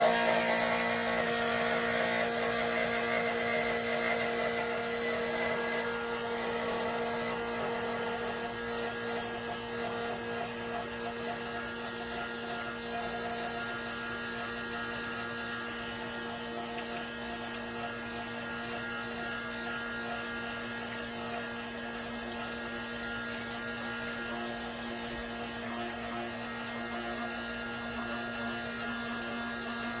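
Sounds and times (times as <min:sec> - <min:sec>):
espresso machine humming: 0:00.0 - 0:30.0.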